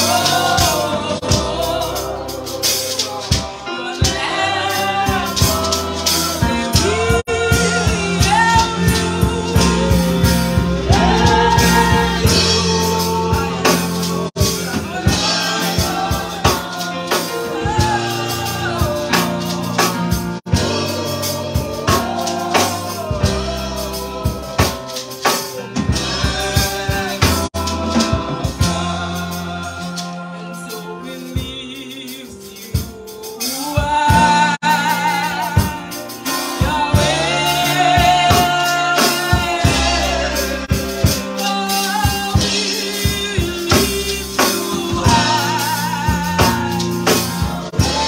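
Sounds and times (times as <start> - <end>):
sustained bass notes: 0.0 - 30.6, 34.1 - 41.6, 43.2 - 48.0
steady drum beat: 0.0 - 48.0.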